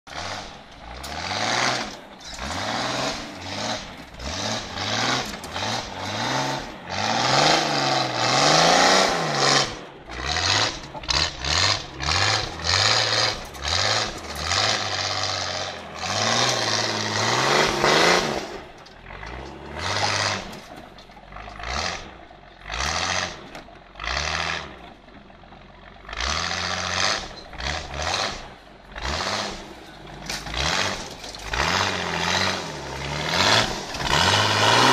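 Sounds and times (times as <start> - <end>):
engine revving under load: 0.0 - 25.1, 25.8 - 34.9.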